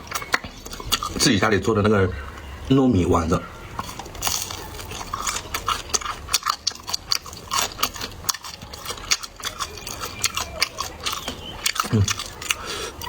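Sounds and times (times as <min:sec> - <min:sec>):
crunchy food chewing: 0:00.0 - 0:02.6, 0:03.6 - 0:13.0.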